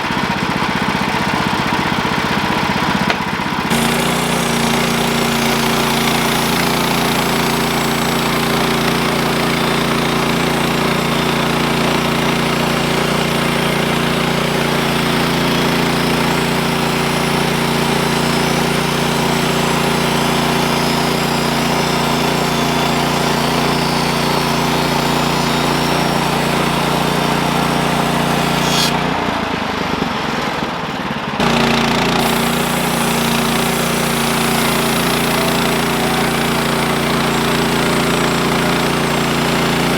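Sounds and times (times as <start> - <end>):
small gasoline engine running: 0.0 - 39.9
bandsaw blade sawing log: 2.1 - 30.4, 31.4 - 39.9.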